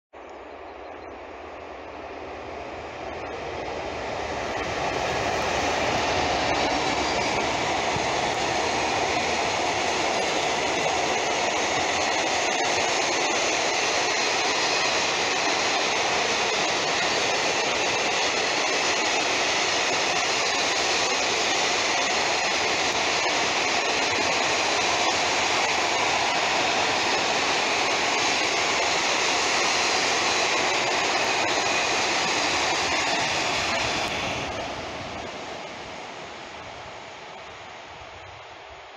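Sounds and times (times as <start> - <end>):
freight train rolling past: 0.2 - 38.9.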